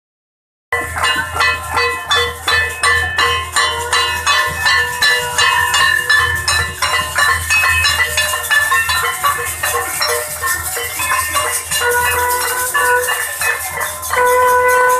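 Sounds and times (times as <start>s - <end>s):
metal clanging: 0.8s - 14.9s.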